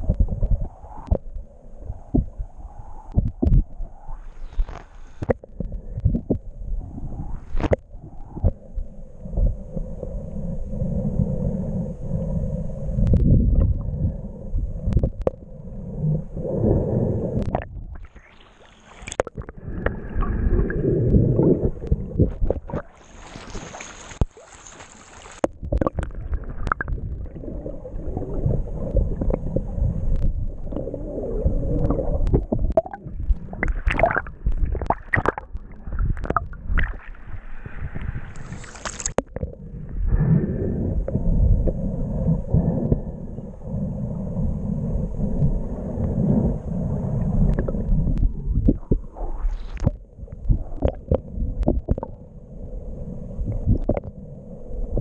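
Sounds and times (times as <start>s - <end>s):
muffled underwater gurgling: 0.0s - 55.0s.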